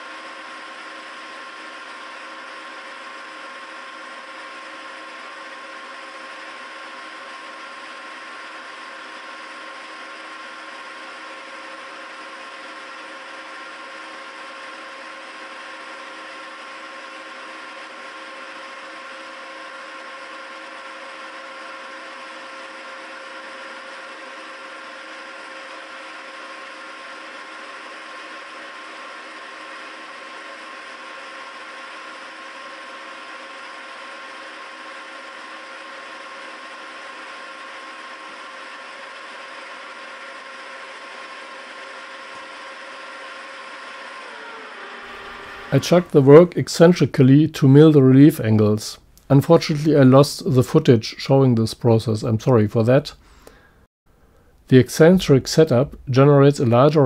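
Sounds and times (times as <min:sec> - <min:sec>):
milling machine whirring: 0:00.0 - 0:48.0.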